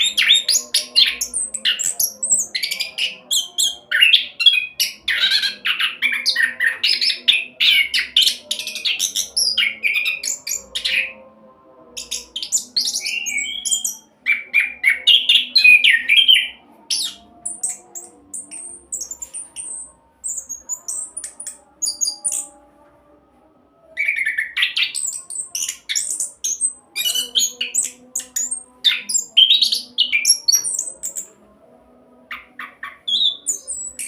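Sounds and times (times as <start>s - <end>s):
thrush singing: 0.0s - 34.0s.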